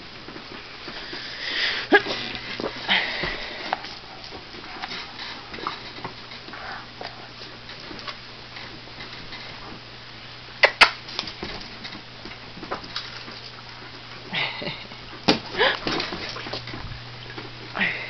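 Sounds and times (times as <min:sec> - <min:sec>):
puppies scuffling on couch: 0:00.0 - 0:10.0, 0:11.0 - 0:17.8
faint steady hum: 0:00.0 - 0:18.0.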